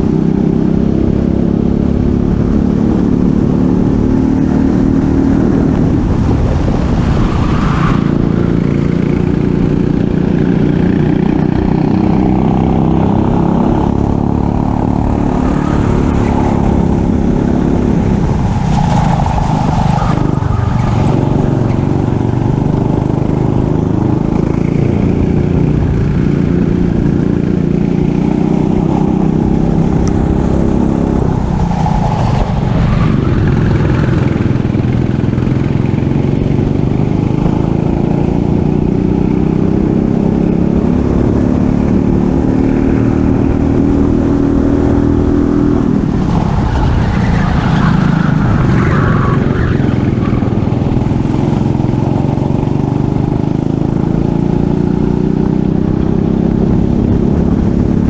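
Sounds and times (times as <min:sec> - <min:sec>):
racing kart engine revving: 0:06.9 - 0:58.0.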